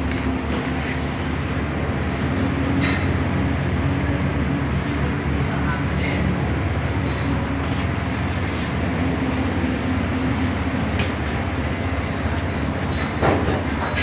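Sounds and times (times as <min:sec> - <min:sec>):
machine rumble: 0:00.0 - 0:14.0.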